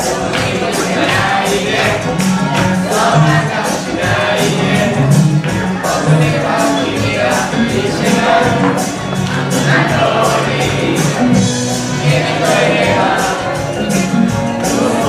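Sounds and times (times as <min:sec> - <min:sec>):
ticking beat accompaniment: 0:00.0 - 0:15.0
young voices singing in unison: 0:00.0 - 0:15.0.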